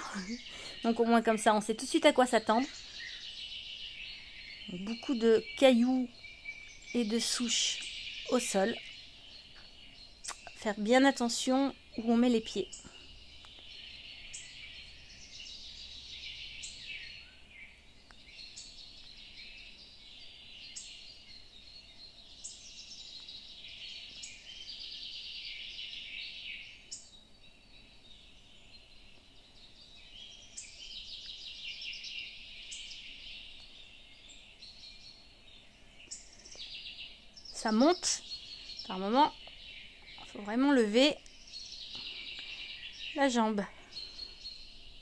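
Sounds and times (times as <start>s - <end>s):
songbirds singing: 0.0s - 45.0s.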